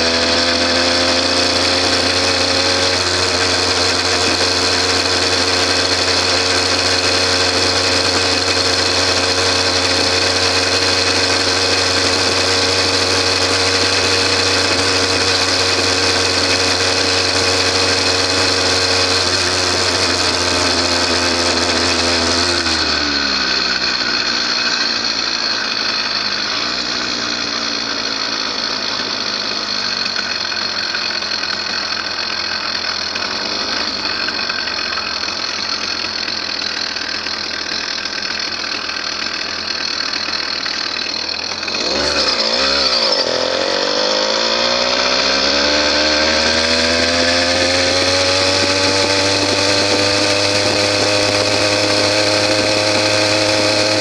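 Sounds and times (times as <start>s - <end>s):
motorbike motor running: 0.0s - 54.0s.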